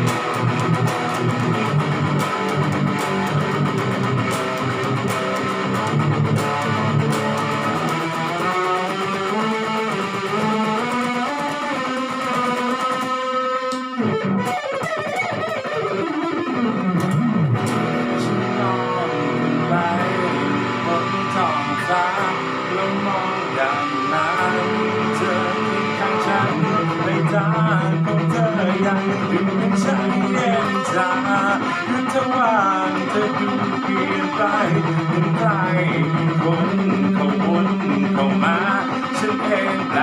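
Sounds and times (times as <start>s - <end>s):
backing track with bass: 0.0s - 40.0s
electric guitar solo: 0.0s - 40.0s.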